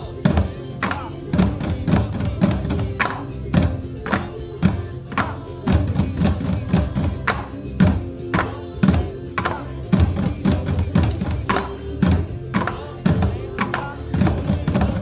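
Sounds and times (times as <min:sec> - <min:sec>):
bucket drumming with drumsticks: 0:00.0 - 0:15.0.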